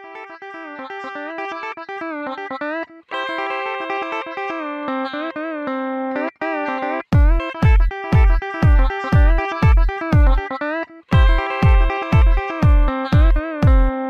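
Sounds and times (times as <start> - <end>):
guitar melody with bending notes: 0.0 - 14.0.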